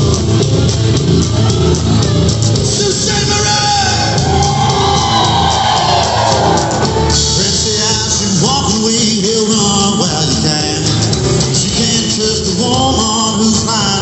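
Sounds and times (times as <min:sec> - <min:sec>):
live country-rock band: 0:00.0 - 0:14.0.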